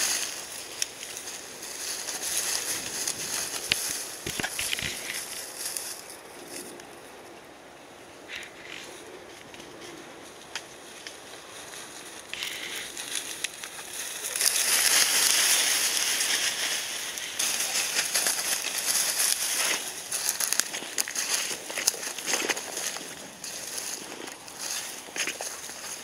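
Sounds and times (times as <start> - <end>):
dry brush rustling and crackling: 0.0 - 26.0.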